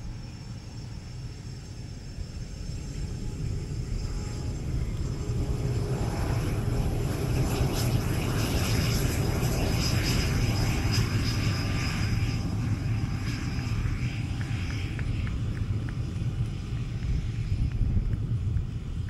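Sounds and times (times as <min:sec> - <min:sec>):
jet engine rumble with whine: 0:00.0 - 0:19.0.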